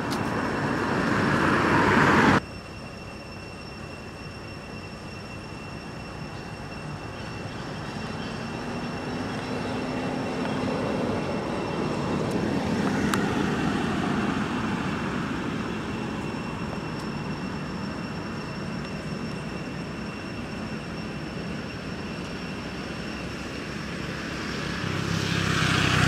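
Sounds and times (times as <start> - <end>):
distant engine rumble: 0.0 - 3.0, 3.8 - 26.0
steady high-pitched tone: 0.0 - 25.3.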